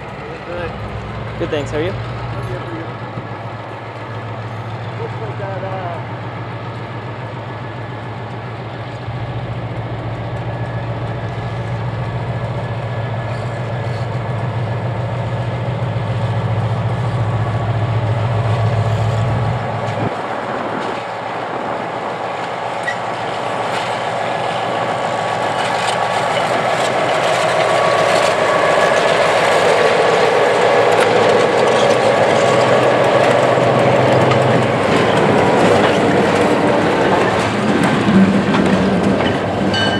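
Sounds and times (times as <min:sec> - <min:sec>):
locomotive engine tone: 0:00.0 - 0:20.0, 0:24.4 - 0:39.9
train wheels clacking over rails: 0:00.0 - 0:39.9.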